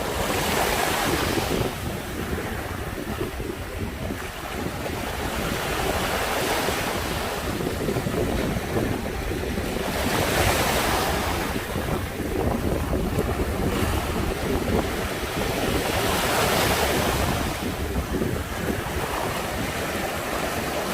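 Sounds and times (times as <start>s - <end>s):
sea surf breaking: 0.0s - 20.9s
wind rumble on microphone: 0.0s - 20.9s.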